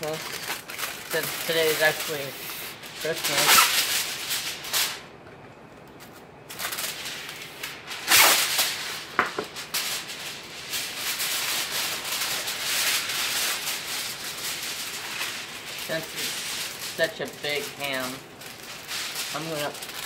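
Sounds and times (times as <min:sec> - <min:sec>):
aluminium foil crinkling: 0:00.0 - 0:05.2, 0:05.8 - 0:20.0.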